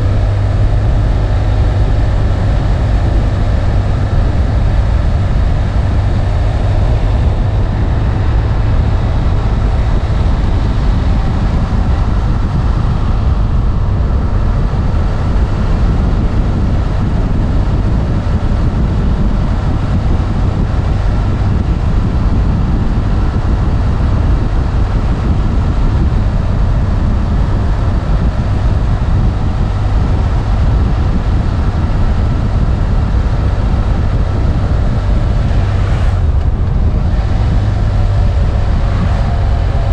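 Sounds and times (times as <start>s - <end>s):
motorcycle engine cruising: 0.0s - 39.9s
wind rushing on microphone: 0.0s - 39.9s.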